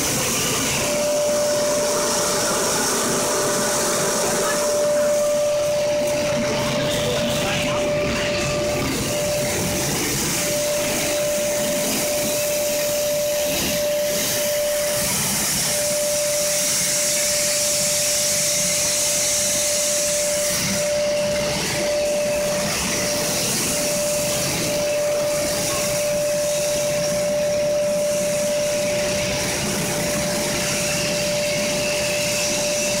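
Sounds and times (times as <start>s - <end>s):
constant machine whine: 0.0s - 33.0s
machine whirring and hissing: 0.0s - 33.0s.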